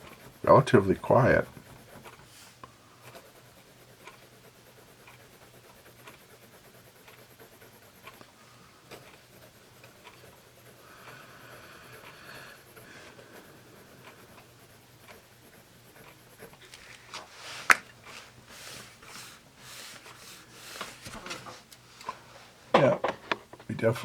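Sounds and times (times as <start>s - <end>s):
pencil rubbing strokes on paper: 0.0s - 21.7s
pencil scratching on paper: 0.0s - 21.7s.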